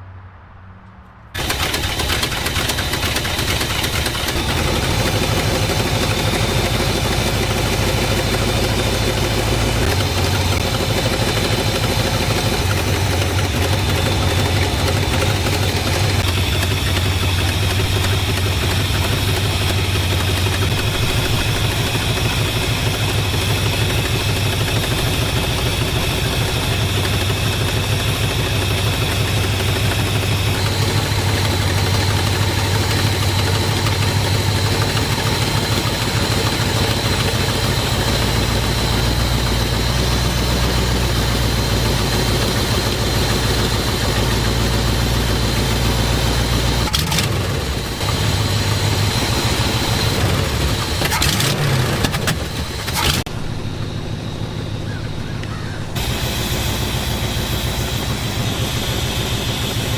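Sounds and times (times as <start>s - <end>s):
car engine idling: 1.2s - 59.9s.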